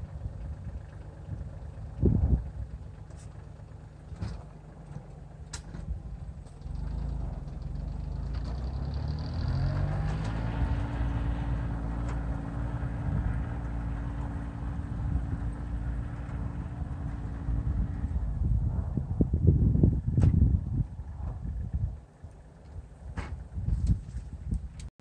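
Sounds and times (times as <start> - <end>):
diesel tractor engine revving: 0.0 - 23.6.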